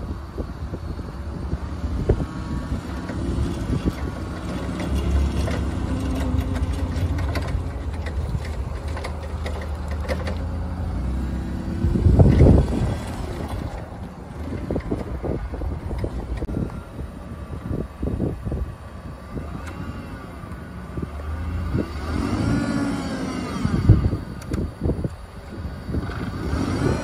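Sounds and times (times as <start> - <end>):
forklift engine running: 0.0 - 27.0.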